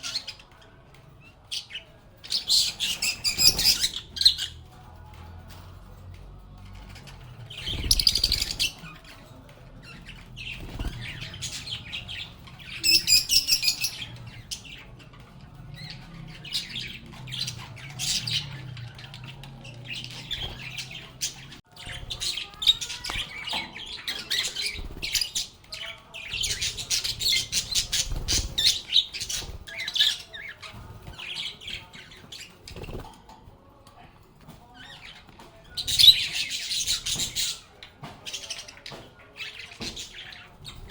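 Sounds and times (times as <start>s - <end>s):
lovebirds chirping and squawking: 0.0s - 40.9s.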